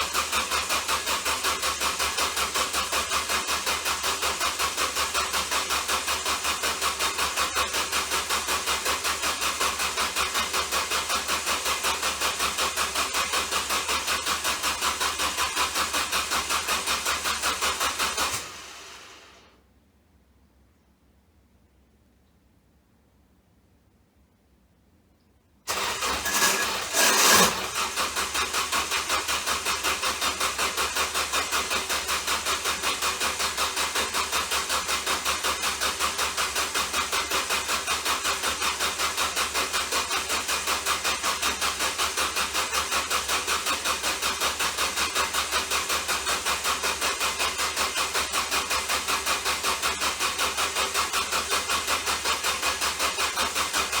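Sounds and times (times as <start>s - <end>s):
car starter cranking engine: 0.0s - 19.5s, 25.7s - 54.0s.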